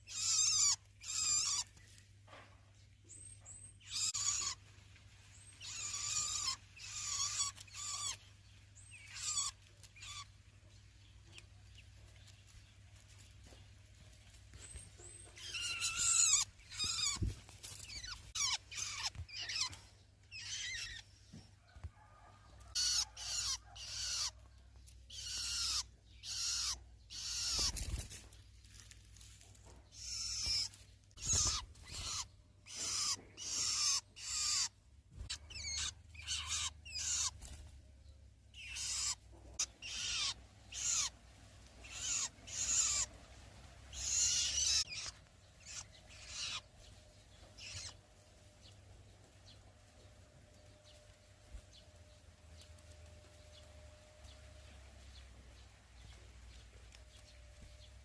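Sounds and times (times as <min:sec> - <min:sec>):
nestling birds begging calls: 0:00.0 - 0:02.4, 0:03.0 - 0:58.0.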